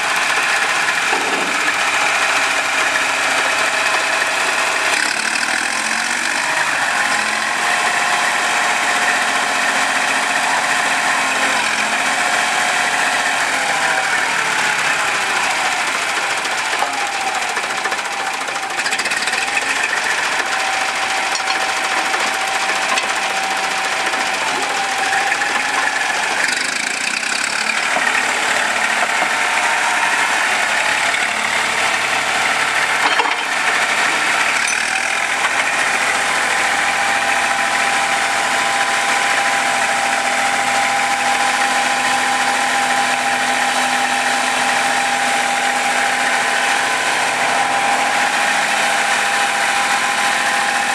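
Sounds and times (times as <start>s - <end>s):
road roller engine running: 0.0s - 50.9s.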